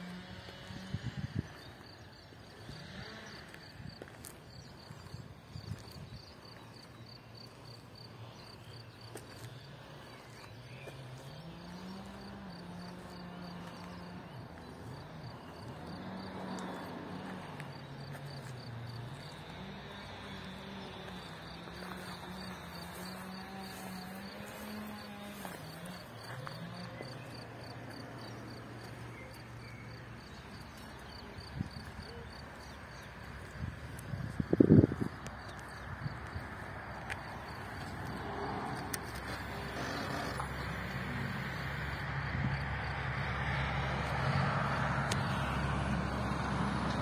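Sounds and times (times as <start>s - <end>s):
cricket chirping: 0.1s - 47.0s.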